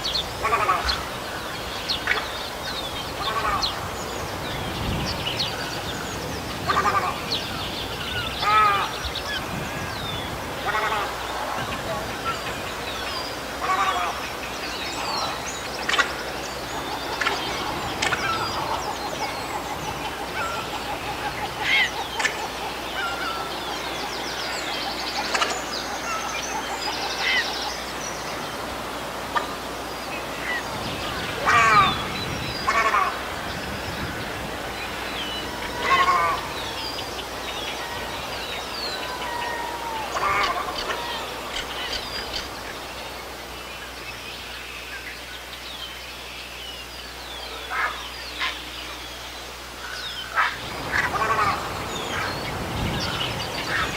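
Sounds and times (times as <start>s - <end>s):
herons squawking: 0.0s - 45.2s, 47.4s - 49.0s, 49.7s - 53.9s
bird calls and chirps: 0.0s - 53.9s.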